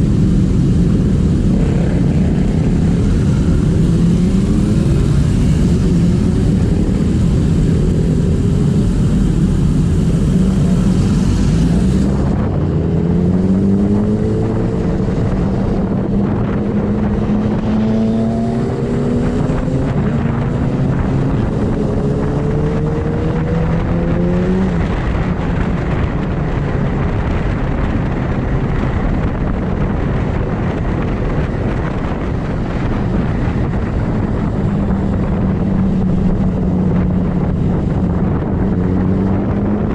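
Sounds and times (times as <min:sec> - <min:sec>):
motorbike engines running: 0:00.0 - 0:39.9
rushing noise: 0:00.0 - 0:39.9.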